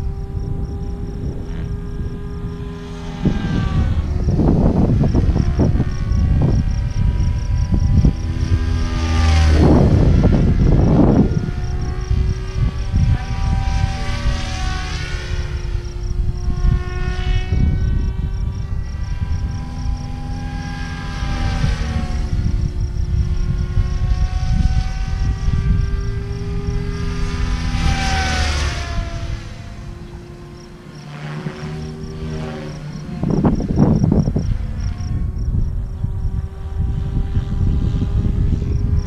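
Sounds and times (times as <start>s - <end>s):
rc helicopter motor and rotor whine: 0.0s - 39.0s.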